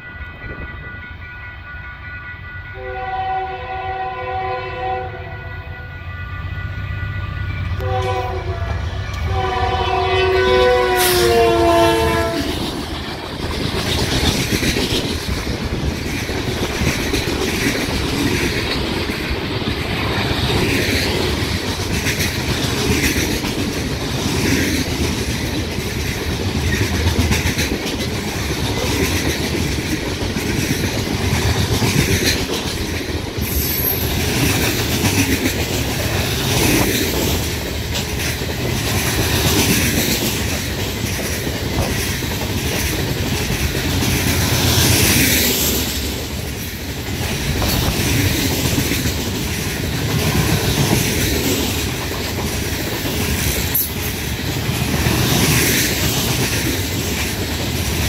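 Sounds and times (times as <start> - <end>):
freight train rumbling past: 0.0 - 58.0
wheels clacking on rails: 7.6 - 58.0.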